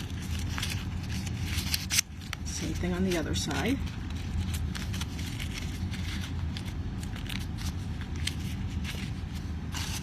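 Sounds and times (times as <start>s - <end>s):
paper rustling and crinkling: 0.0s - 10.0s
steady low hum: 0.0s - 10.0s.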